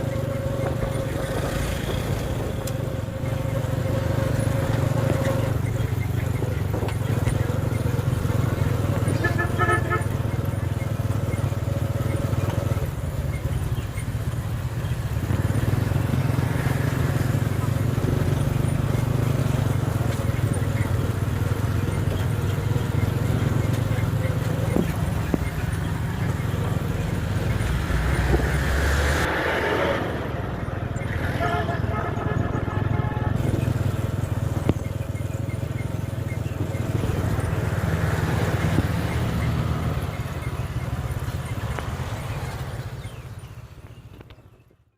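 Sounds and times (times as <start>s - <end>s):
vehicle engine running: 0.0s - 44.5s.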